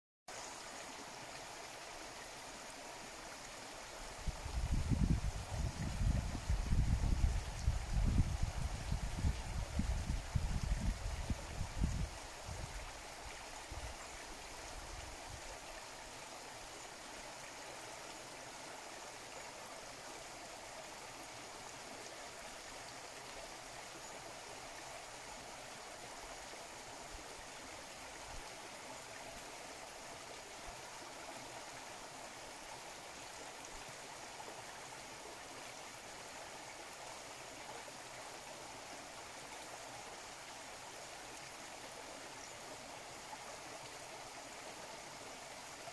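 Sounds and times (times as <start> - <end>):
river rushing over stones: 0.3 - 45.9.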